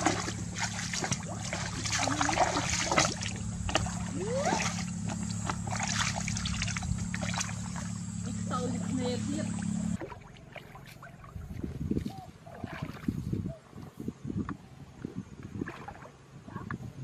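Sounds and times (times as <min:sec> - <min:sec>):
muddy water splashing: 0:00.0 - 0:13.8, 0:15.0 - 0:17.0
steady low hum: 0:00.0 - 0:17.0.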